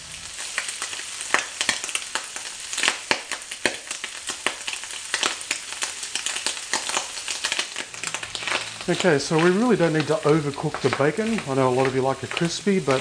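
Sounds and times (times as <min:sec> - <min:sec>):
bacon sizzling with pops: 0:00.0 - 0:13.0.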